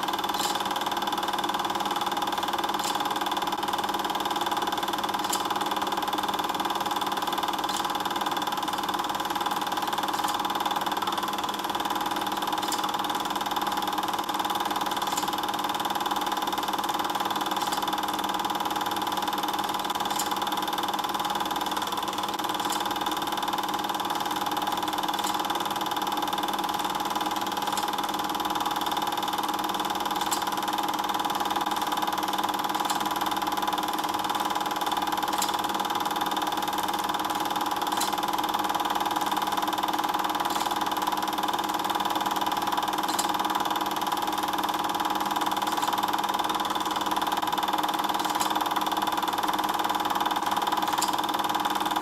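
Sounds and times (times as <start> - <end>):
film projector motor whirring: 0.0 - 52.0.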